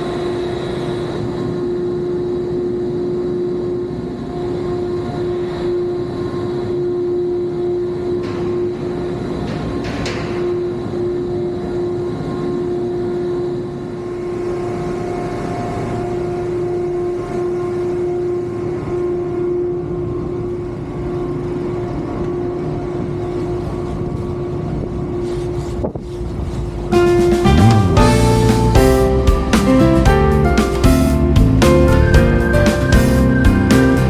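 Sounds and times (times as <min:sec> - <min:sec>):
steady mechanical drone: 0:00.0 - 0:34.0.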